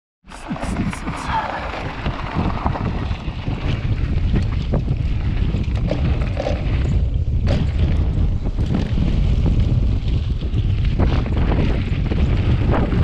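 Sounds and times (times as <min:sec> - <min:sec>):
wind rumbling on microphone: 0:00.3 - 0:13.0
bike tyre noise on gravel: 0:00.4 - 0:13.0
bike clicks and rattles: 0:01.8 - 0:13.0.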